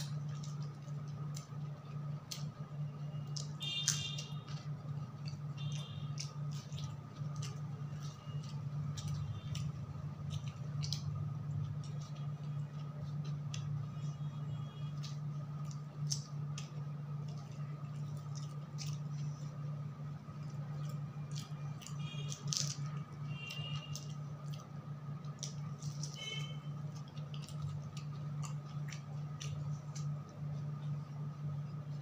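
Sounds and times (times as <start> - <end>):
person chewing food: 0.0 - 32.0
steady low hum: 0.0 - 32.0.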